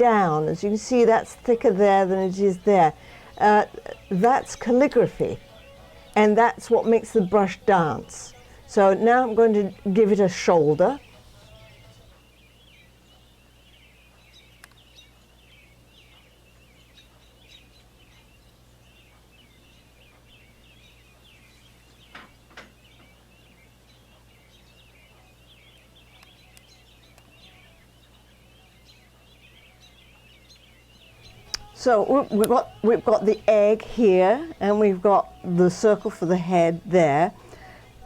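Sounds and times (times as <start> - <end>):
low steady hum: 0.0 - 38.0
small birds chirping: 0.0 - 38.0.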